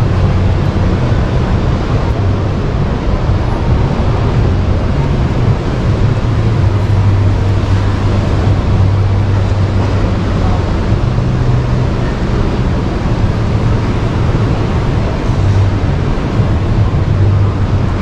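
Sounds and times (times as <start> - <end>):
constant low hum: 0.0 - 18.0
crowd murmur: 0.0 - 18.0.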